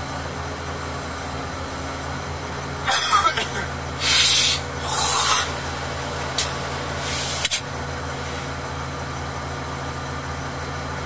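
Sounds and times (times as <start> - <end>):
crane engine idling: 0.0 - 11.0.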